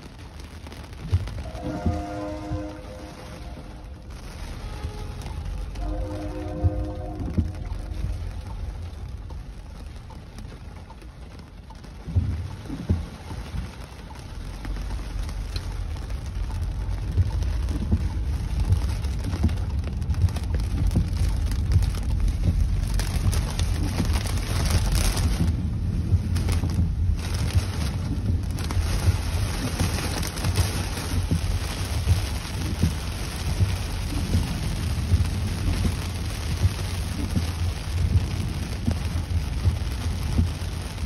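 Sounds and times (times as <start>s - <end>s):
constant low rumble: 0.0s - 41.0s
heavy rain on car windshield: 0.0s - 41.0s.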